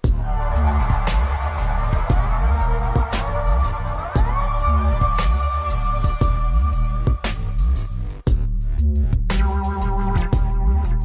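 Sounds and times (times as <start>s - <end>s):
electronic music with heavy bass beat: 0.0s - 11.0s.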